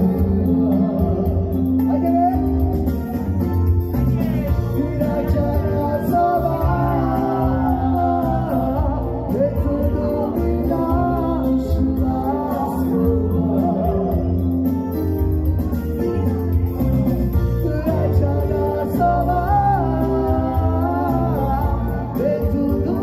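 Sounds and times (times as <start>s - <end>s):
man singing into a microphone: 0.0s - 15.0s, 17.4s - 23.0s
electronic keyboard accompaniment: 0.0s - 23.0s.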